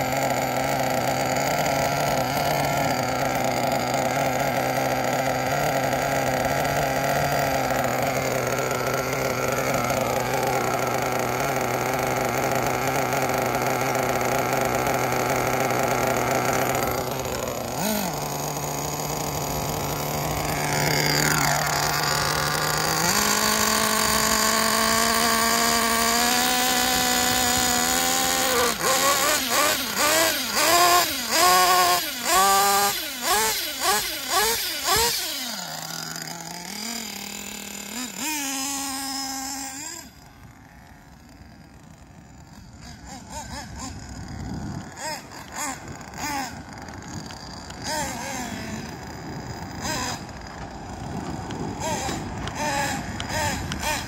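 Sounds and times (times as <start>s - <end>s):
nitro engine revving: 0.0s - 54.0s.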